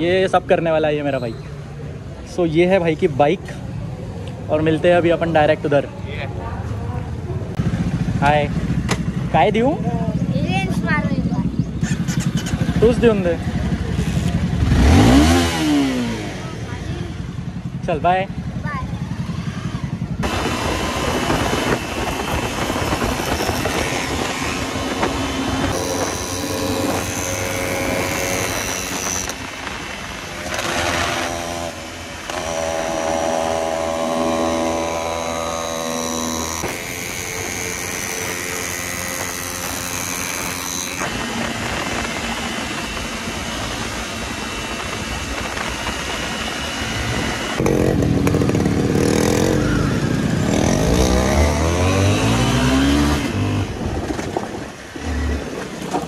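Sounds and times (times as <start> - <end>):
motorcycle engine running: 6.4 - 56.0.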